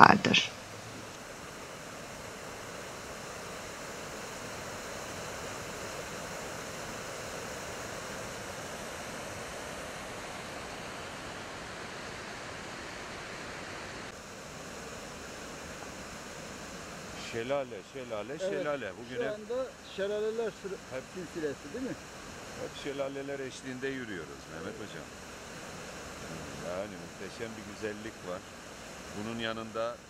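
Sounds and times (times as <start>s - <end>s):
stream rushing over boulders: 0.0s - 30.0s.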